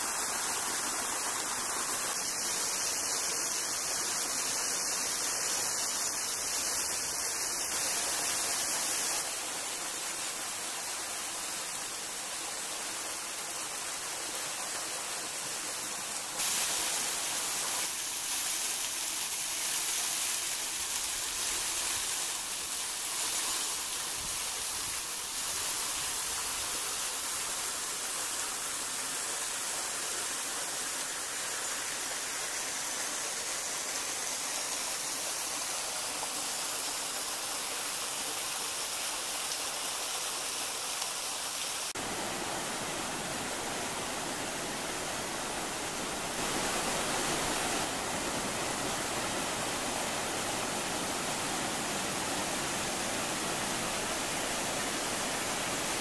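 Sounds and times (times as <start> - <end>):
waterfall splashing down rocks: 0.0 - 56.0.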